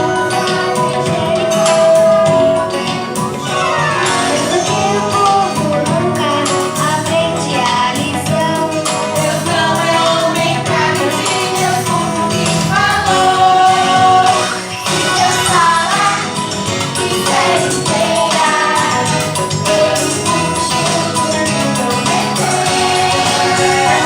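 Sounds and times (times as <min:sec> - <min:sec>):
instrumental backing: 0:00.0 - 0:24.0
people singing: 0:00.0 - 0:24.0.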